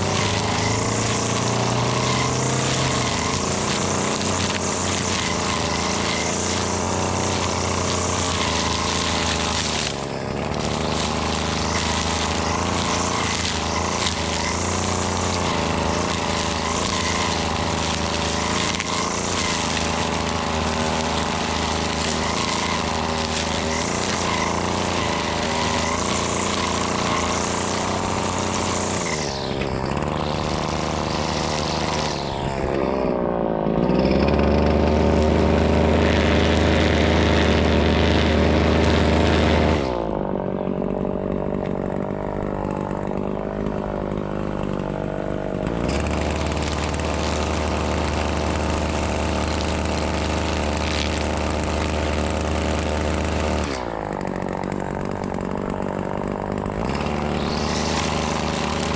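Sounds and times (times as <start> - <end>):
string trimmer engine revving: 0.0 - 58.9.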